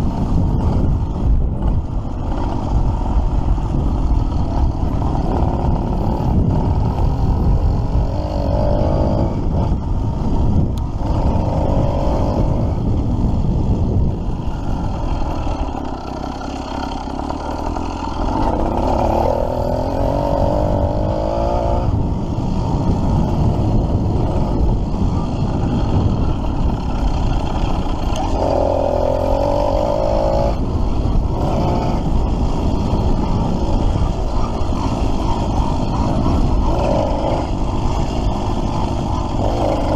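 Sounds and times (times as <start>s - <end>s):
small motorbike engine running: 0.0s - 39.9s
wind and road noise: 0.0s - 39.9s.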